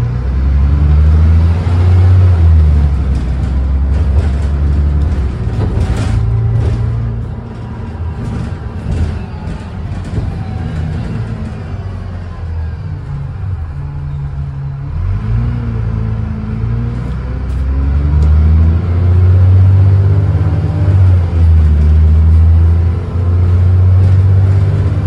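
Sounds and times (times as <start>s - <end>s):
bus body rattling: 0.0s - 25.0s
bus diesel engine: 0.0s - 25.0s.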